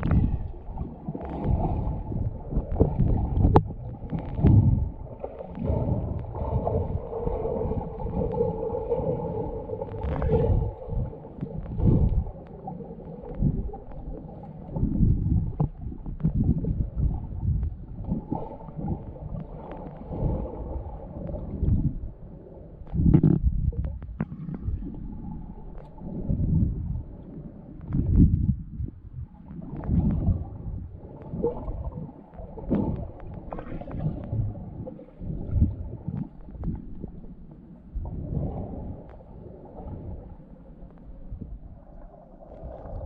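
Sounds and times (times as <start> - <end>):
water sloshing and gurgling: 0.0 - 43.0.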